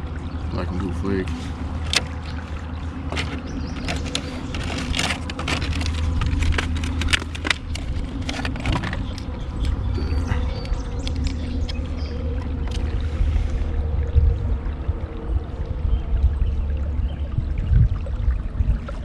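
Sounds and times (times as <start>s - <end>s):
water rumble: 0.0s - 19.0s
wind: 0.0s - 19.0s.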